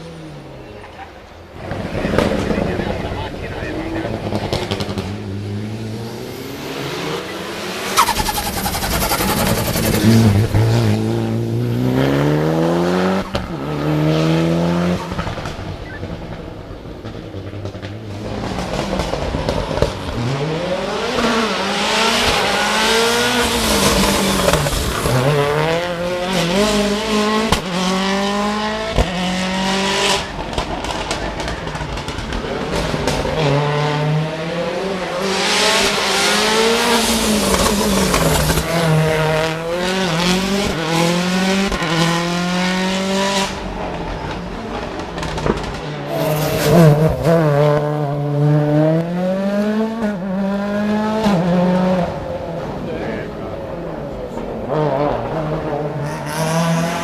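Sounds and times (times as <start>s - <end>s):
racing car engine revving: 1.6s - 57.0s.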